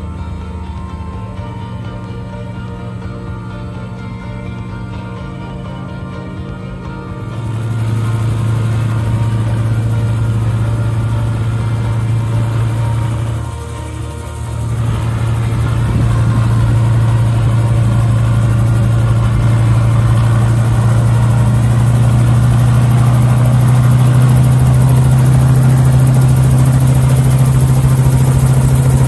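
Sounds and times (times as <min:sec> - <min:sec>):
helicopter engine droning: 0:00.0 - 0:29.0
higher engine note: 0:00.0 - 0:29.0.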